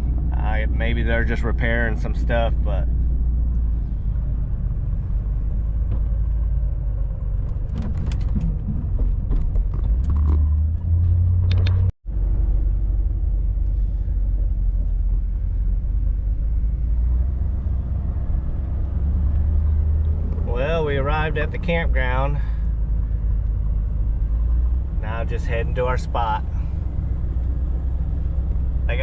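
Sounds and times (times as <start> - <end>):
van engine and road rumble: 0.0 - 29.0.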